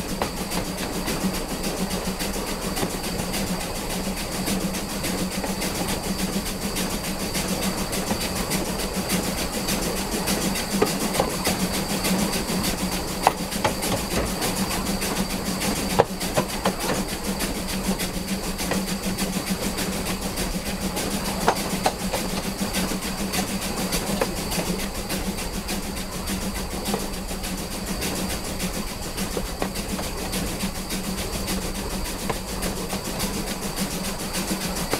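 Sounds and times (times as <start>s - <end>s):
constant hum: 0.0s - 34.9s
steam locomotive exhaust churn: 0.0s - 34.9s.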